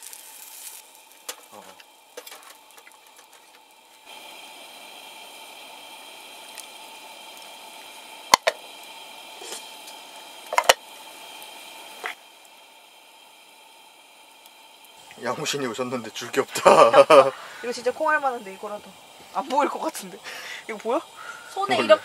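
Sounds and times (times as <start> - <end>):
pot simmering hiss: 0.0 - 22.0.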